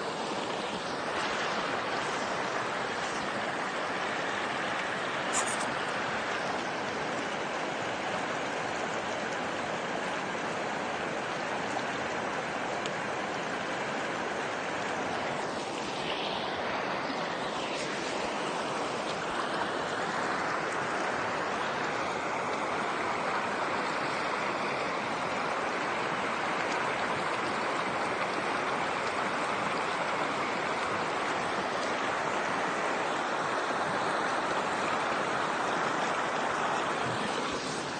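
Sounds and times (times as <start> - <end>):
stream flowing: 0.0 - 37.9.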